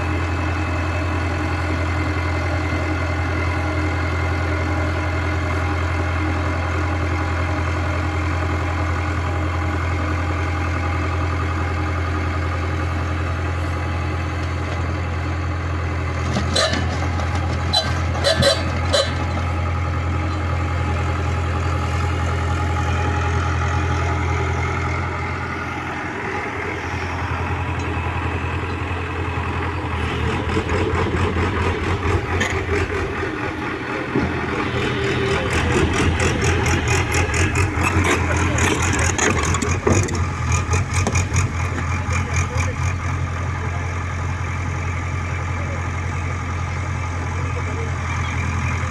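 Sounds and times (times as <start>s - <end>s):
heavy diesel engine idling: 0.0s - 48.9s.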